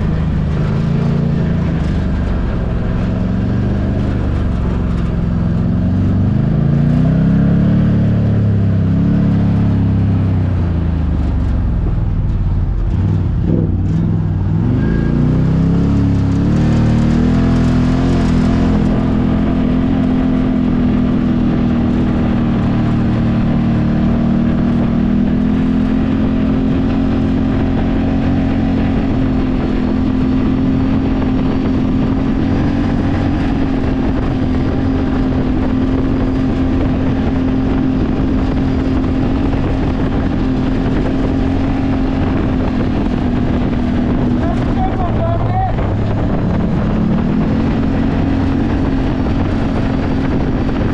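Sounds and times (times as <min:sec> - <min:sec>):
vehicle engine running loud: 0:00.0 - 0:50.9.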